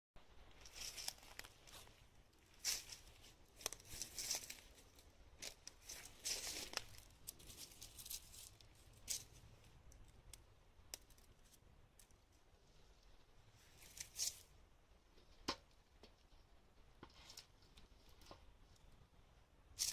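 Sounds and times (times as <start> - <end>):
wood fire crackling: 0.4 - 19.9.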